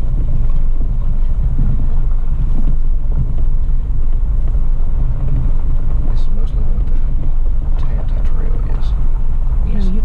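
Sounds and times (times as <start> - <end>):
faint body knocks: 0.0 - 9.0
car cabin engine rumble: 0.0 - 10.0
tyres on dirt road: 0.0 - 10.0.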